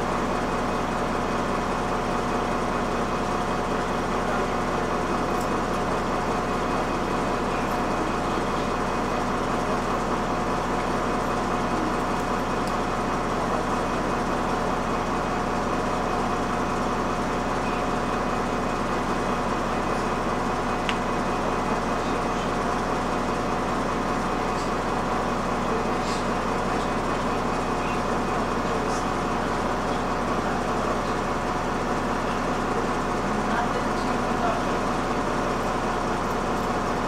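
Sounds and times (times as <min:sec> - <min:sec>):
bus engine hum: 0:00.0 - 0:37.0.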